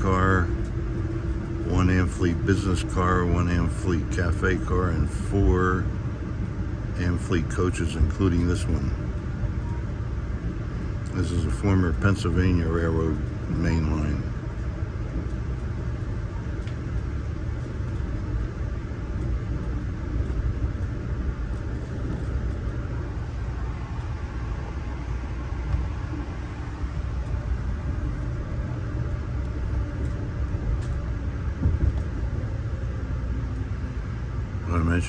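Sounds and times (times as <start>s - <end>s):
train coach rumbling on rails: 0.0s - 35.0s.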